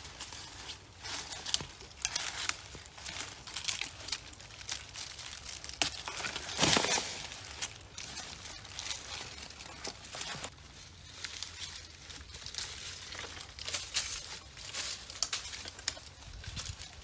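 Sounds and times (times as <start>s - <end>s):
dry leaves and twigs rustling: 0.0s - 17.0s
twigs snapping: 0.0s - 17.0s.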